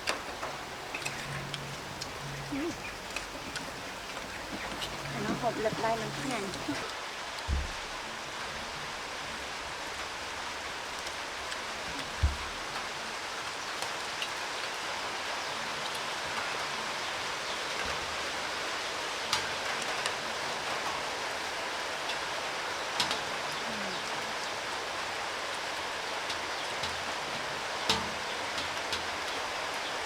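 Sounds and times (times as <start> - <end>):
rain falling: 0.0 - 30.0.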